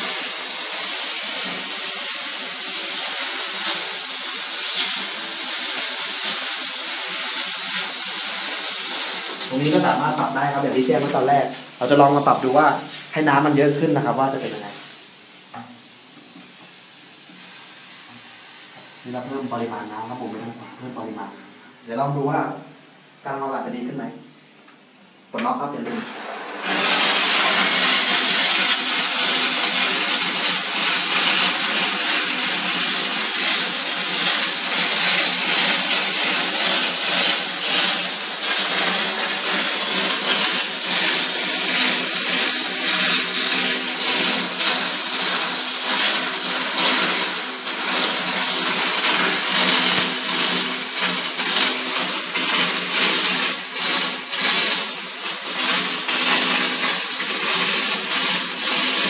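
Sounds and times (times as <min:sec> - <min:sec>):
steam cleaner hissing: 0:00.0 - 0:20.3, 0:25.8 - 0:59.0.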